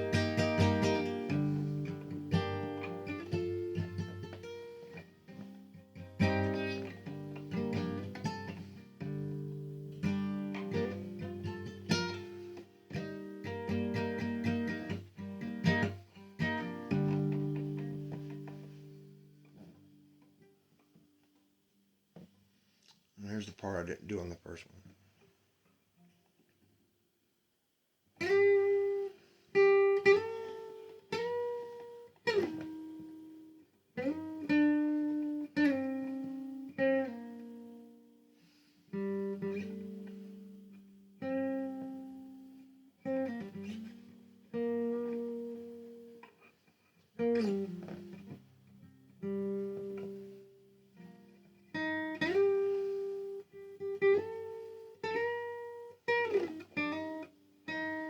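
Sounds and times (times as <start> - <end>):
slow solo guitar: 0.0 - 21.5, 28.2 - 58.0.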